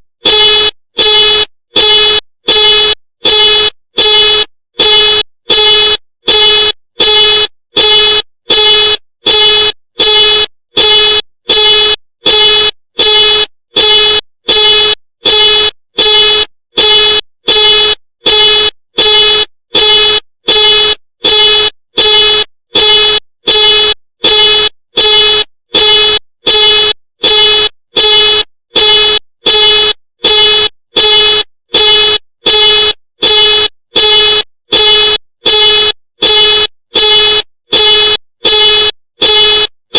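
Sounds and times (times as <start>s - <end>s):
car alarm horn blasts: 0.2s - 39.7s.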